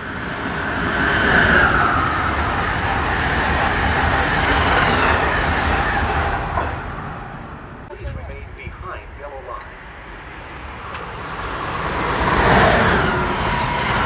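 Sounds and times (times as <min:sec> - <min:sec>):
passenger train passing at speed: 0:00.0 - 0:14.0.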